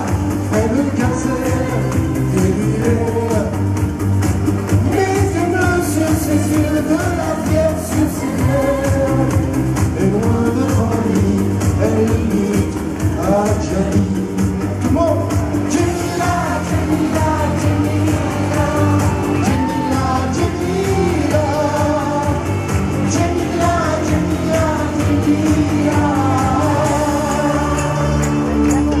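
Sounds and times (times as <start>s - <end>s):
band with heavy bass: 0.0s - 29.0s
man singing lead vocal: 0.0s - 29.0s.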